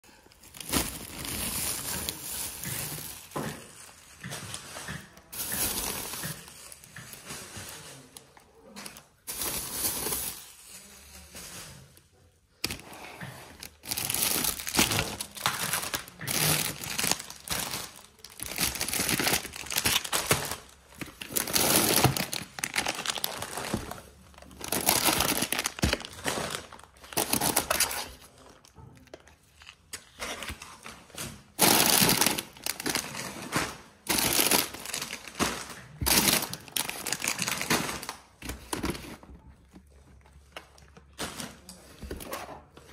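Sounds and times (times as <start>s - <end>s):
plastic bags crinkling: 0.1s - 42.7s.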